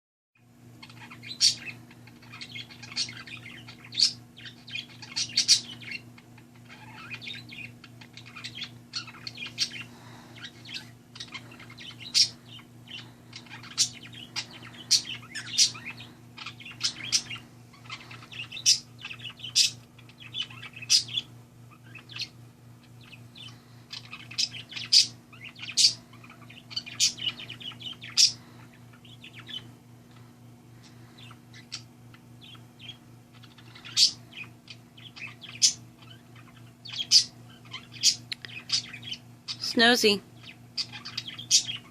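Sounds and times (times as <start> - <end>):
low electrical hum: 0.4 - 41.9
parakeet chirping and warbling: 0.8 - 41.9.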